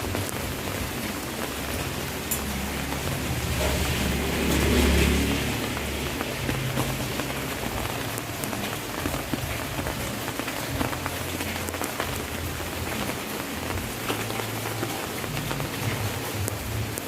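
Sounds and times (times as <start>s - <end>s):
rain falling on hard surfaces: 0.0s - 17.0s
raindrops striking close by: 0.0s - 17.0s.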